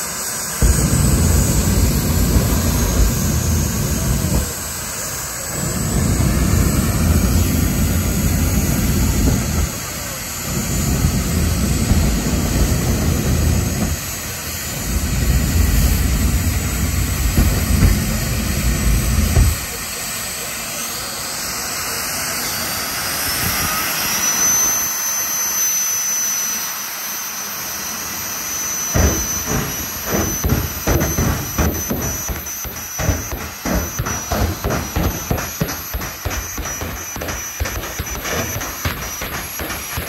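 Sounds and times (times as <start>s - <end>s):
race car engine: 0.0s - 25.8s, 26.4s - 40.0s
high whine: 0.0s - 40.0s.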